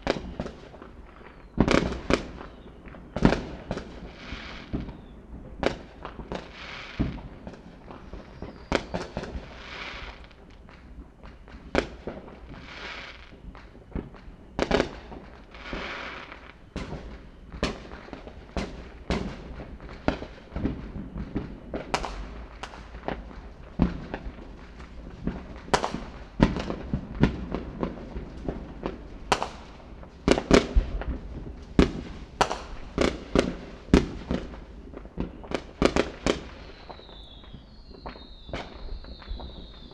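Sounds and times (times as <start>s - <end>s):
fireworks bangs: 0.0s - 39.9s
fireworks crackling hiss: 0.0s - 39.9s.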